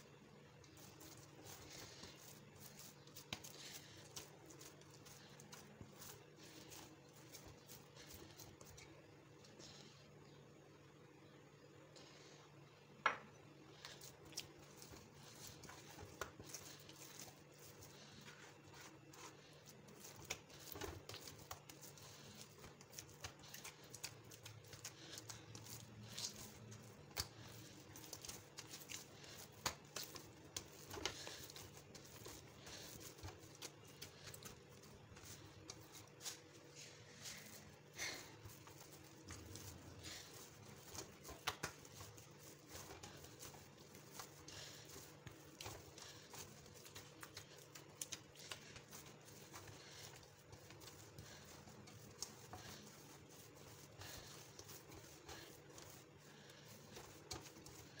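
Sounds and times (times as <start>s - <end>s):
dough squelching in steel bowl: 0.0s - 9.8s, 13.4s - 58.0s.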